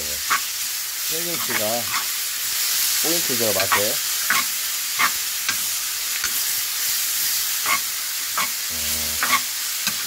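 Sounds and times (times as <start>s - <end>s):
food sizzling in a wok: 0.0s - 10.0s
spatula scraping and tossing food: 0.2s - 10.0s.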